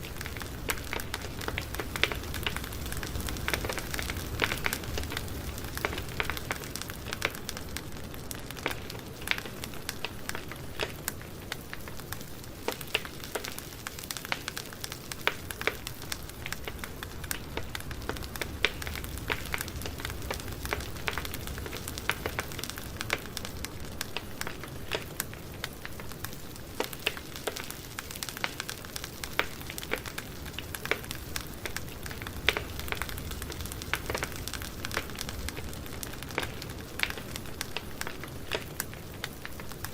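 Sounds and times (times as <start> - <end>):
low rumble and hiss of flames: 0.0 - 39.9
wood crackling and popping: 0.0 - 39.9.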